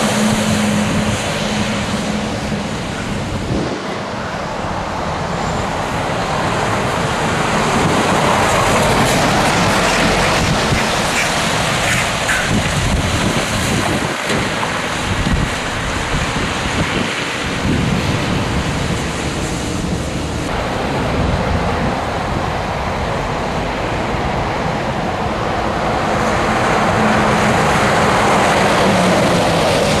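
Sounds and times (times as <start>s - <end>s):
truck road rumble: 0.0s - 30.0s
wind buffeting microphone: 0.0s - 30.0s
wind rush: 0.0s - 30.0s.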